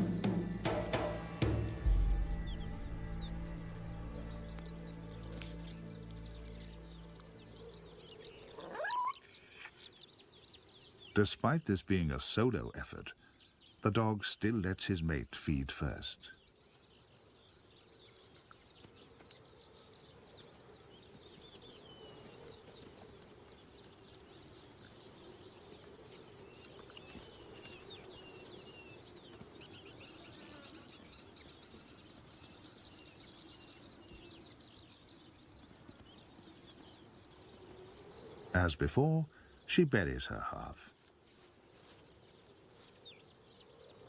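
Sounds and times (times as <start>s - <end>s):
faint birdsong trills: 0.0s - 44.0s.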